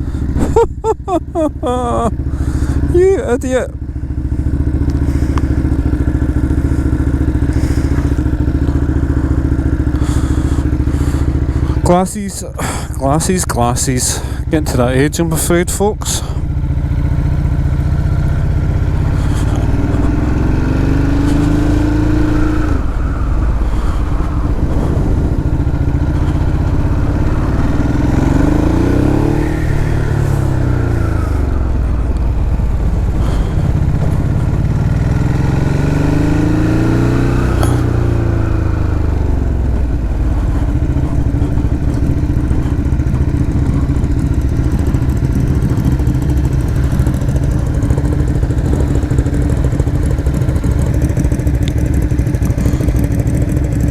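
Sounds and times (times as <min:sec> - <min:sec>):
motorcycle engines running: 0:00.0 - 0:53.9.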